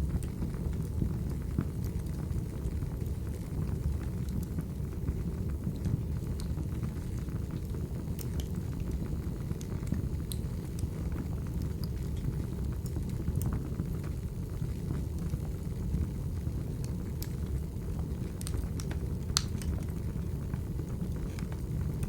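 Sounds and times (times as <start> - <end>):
fire crackles and pops: 0.0 - 22.0
fire rumbling: 0.0 - 22.0.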